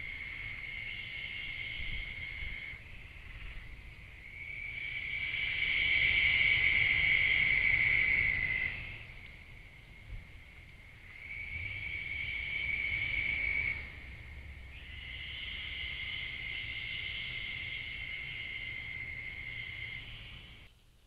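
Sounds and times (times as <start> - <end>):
night insects trilling: 0.0 - 20.7.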